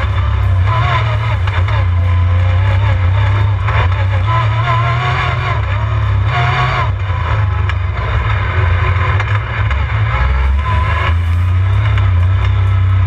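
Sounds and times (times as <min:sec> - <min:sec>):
utility vehicle engine running: 0:00.0 - 0:13.0.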